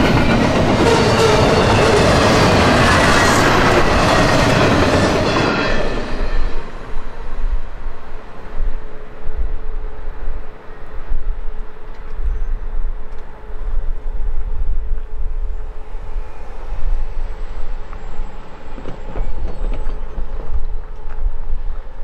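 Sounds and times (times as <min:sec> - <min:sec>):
freight train rumbling on rails: 0:00.0 - 0:22.0.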